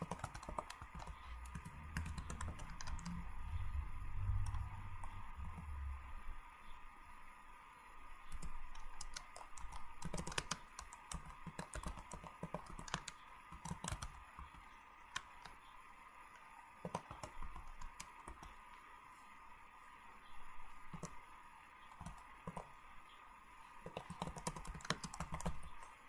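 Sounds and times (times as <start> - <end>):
high-pitched background hum: 0.0 - 26.0.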